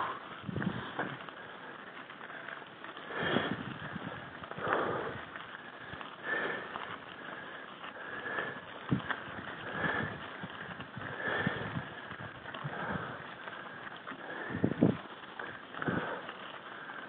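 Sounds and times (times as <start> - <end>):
tyres crunching on gravel: 0.0 - 17.0
person breathing hard: 3.0 - 17.0.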